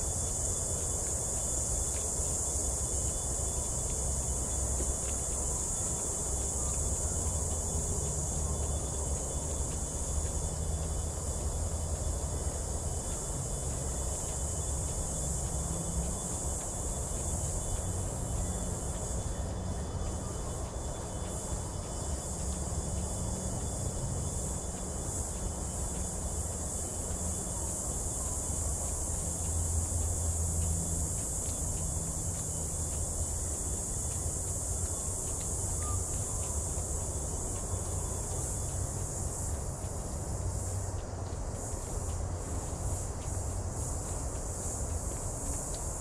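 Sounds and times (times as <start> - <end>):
bush insects droning: 0.0 - 46.0
continuous low rumble: 0.0 - 46.0.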